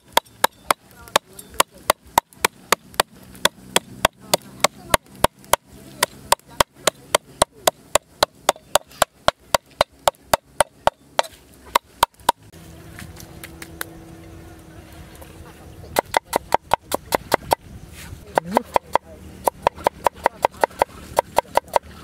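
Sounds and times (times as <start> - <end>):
cleaver chopping on wooden board: 0.0 - 12.4, 16.0 - 17.6, 18.3 - 22.0.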